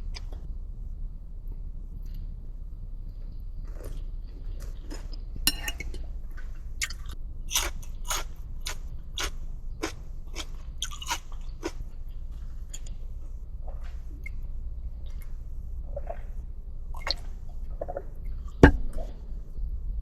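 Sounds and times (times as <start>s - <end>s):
low steady rumble: 0.0s - 20.0s
crunching fried chicken: 3.1s - 19.5s.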